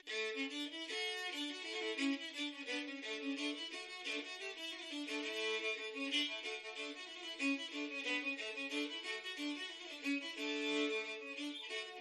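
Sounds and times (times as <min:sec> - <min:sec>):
fiddle playing quick tune: 0:00.0 - 0:12.0.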